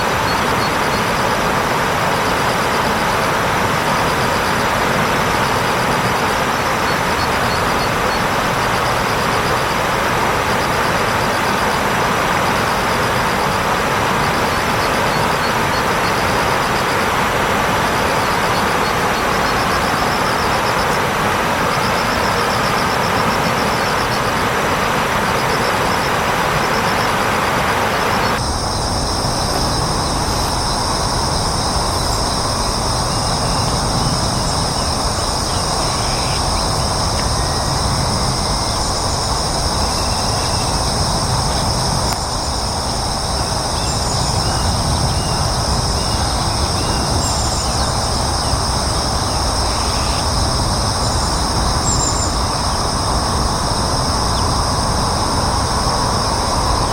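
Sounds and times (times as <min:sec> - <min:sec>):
steady high-pitched tones: 0:00.0 - 0:56.9.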